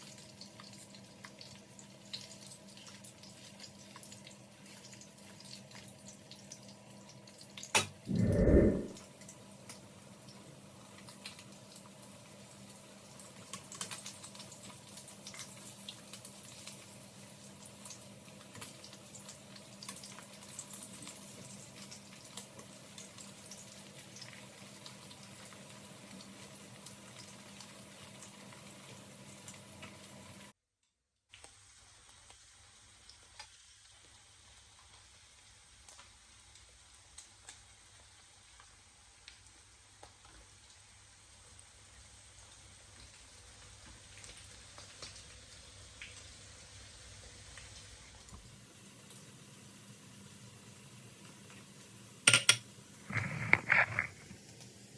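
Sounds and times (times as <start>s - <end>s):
food sizzling in a pan: 0.0s - 7.9s, 9.9s - 30.5s, 31.3s - 54.9s.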